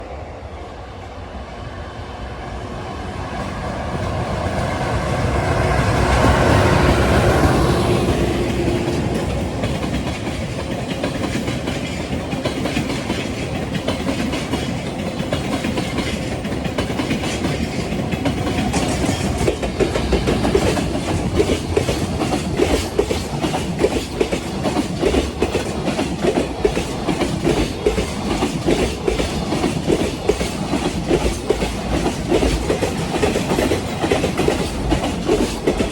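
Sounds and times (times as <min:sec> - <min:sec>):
freight train passing: 0:00.0 - 0:35.9
wheels clicking over rail joints: 0:06.0 - 0:35.9.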